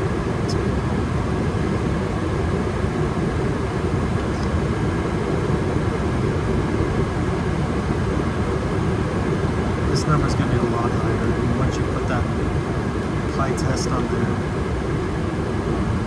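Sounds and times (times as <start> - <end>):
gas furnace running: 0.0 - 16.0.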